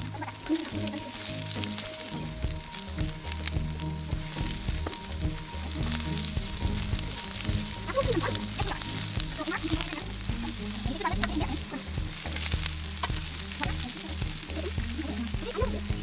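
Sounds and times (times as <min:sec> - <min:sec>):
oil popping: 0:00.0 - 0:16.0
onion sizzling in oil: 0:00.0 - 0:16.0.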